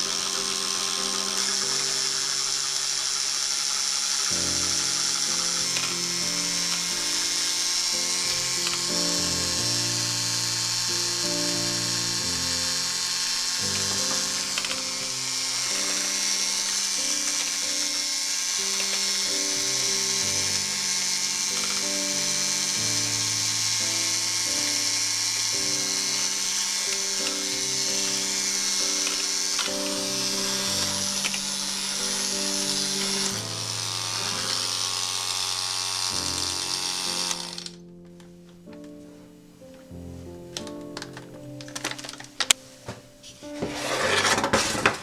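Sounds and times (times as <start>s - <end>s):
electric mixer motor whine: 0.0s - 37.8s
soft slow background music: 0.0s - 44.3s.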